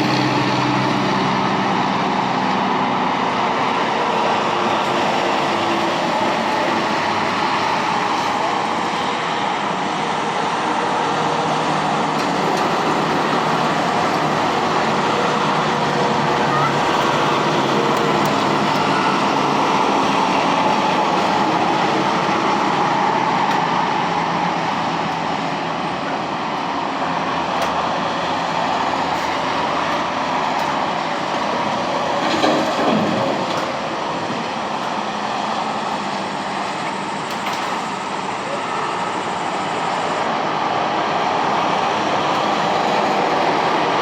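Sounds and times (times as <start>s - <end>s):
moving vehicle rumble: 0.0s - 44.0s.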